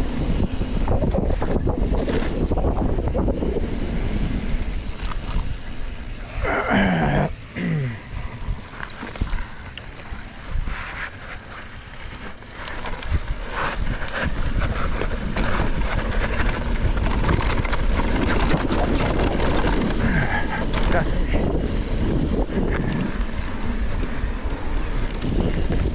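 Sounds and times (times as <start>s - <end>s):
bike rattling over bumps: 0.0s - 6.6s, 7.3s - 25.9s
bike tyres crunching over dirt: 0.0s - 25.9s
wind rumbling on microphone: 0.0s - 25.9s.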